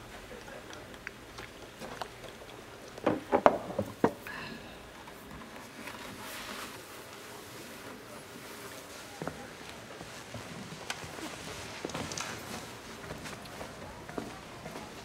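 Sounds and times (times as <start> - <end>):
quiet room noise: 0.0 - 15.0.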